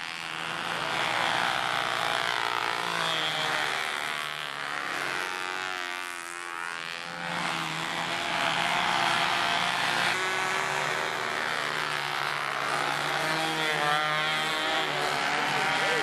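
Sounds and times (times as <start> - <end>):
model airplane engines buzzing: 0.0 - 16.0.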